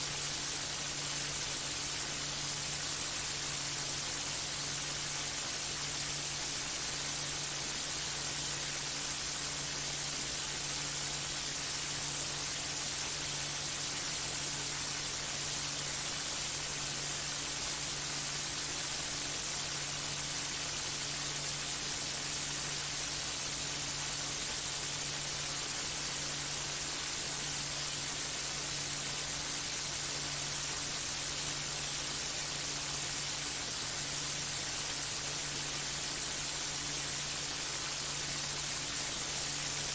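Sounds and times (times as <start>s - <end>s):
low electrical hum: 0.0s - 39.9s
static hiss: 0.0s - 39.9s.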